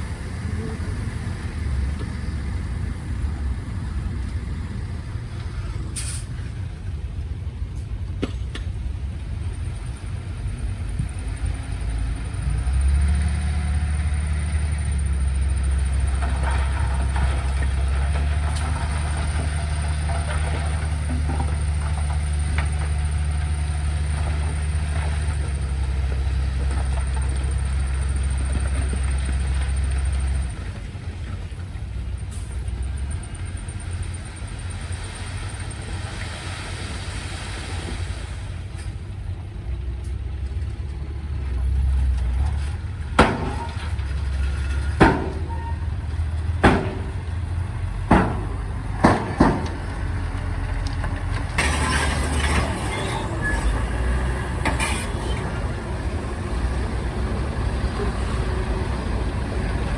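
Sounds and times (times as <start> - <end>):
diesel machinery droning: 0.0 - 59.9.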